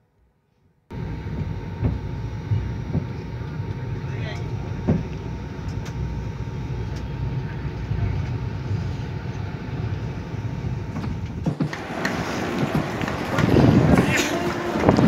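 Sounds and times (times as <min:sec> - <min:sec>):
faint steady whine: 0:00.9 - 0:15.0
train coach low rumble: 0:00.9 - 0:15.0.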